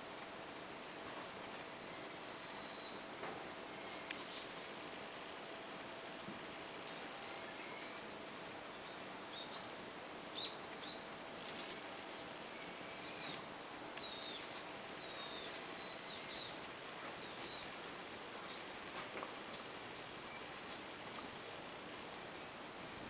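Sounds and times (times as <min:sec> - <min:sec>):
small birds whistling: 0:00.1 - 0:06.4, 0:07.1 - 0:23.0.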